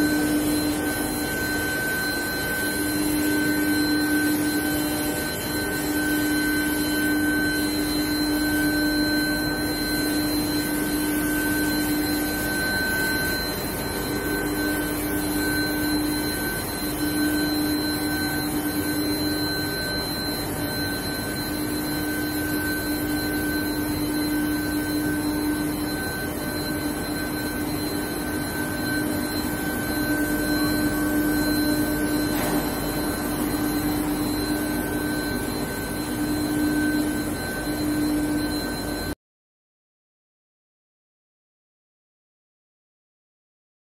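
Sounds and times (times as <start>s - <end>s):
steady machine drone: 0.0s - 39.2s
steady whining tones: 0.0s - 39.2s.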